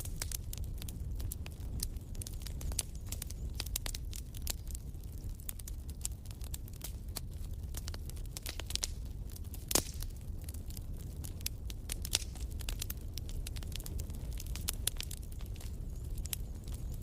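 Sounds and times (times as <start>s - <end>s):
low rumble of flames: 0.0s - 17.0s
wood fire popping and snapping: 0.0s - 17.0s.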